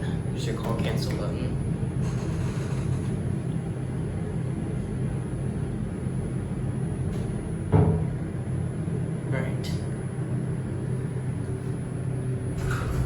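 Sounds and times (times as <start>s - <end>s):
elevator hum: 0.0s - 13.0s.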